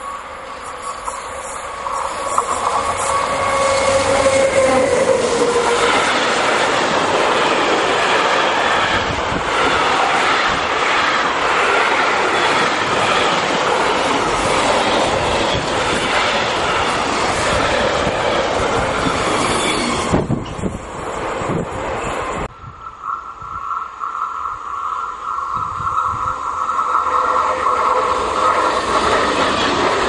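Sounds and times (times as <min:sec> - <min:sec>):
locomotive tone dropping in pitch: 0:00.0 - 0:10.2, 0:14.1 - 0:30.0
train wheels clattering on rail: 0:00.7 - 0:22.5, 0:25.6 - 0:30.0.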